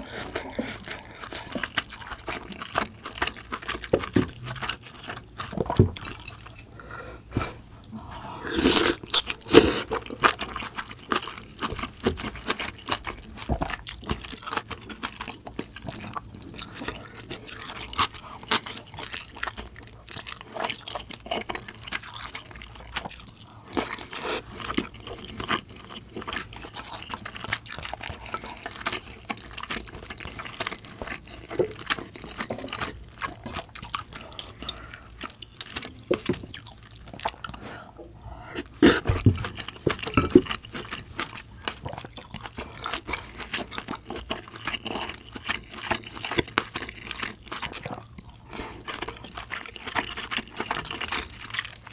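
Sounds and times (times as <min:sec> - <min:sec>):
wet chewing: 0:00.0 - 0:51.9.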